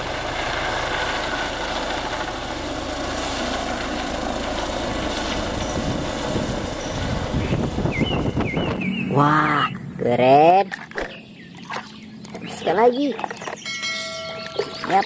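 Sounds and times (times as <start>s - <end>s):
helicopter flying low: 0.0s - 15.0s.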